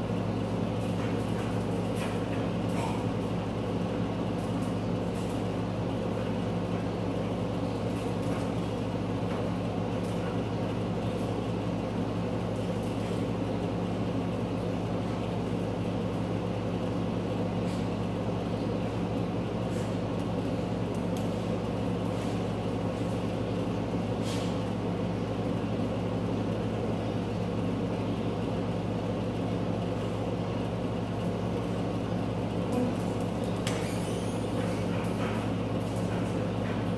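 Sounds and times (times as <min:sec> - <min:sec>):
ventilation fan hum: 0:00.0 - 0:36.9.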